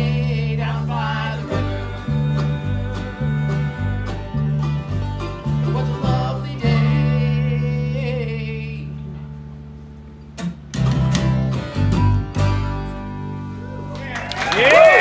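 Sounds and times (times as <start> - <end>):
acoustic string band playing: 0.0 - 14.0.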